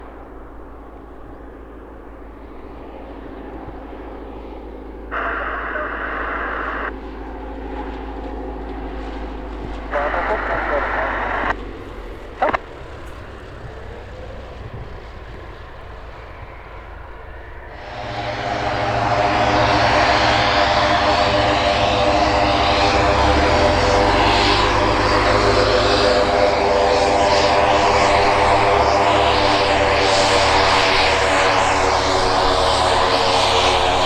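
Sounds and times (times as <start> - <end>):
aircraft engine and propeller: 0.0 - 34.0.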